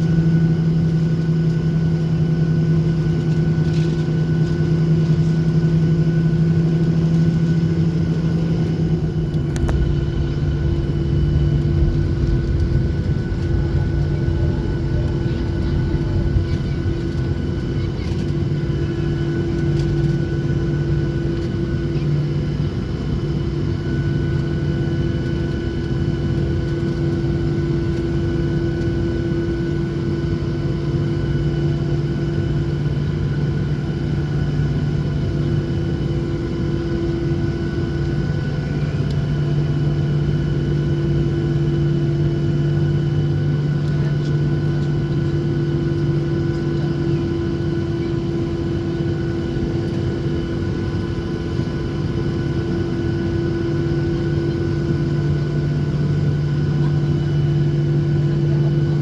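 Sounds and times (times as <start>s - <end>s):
jet engines droning in cabin: 0.0s - 59.0s.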